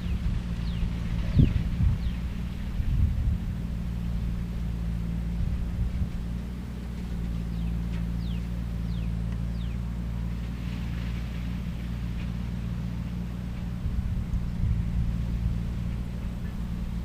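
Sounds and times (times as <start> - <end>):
heavy low rumbling: 0.0 - 17.0
skid steer engine humming: 0.0 - 17.0.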